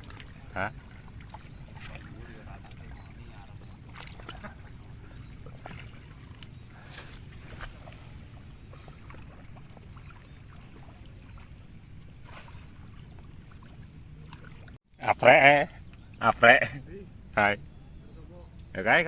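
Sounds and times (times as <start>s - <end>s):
crickets droning: 0.0s - 19.0s.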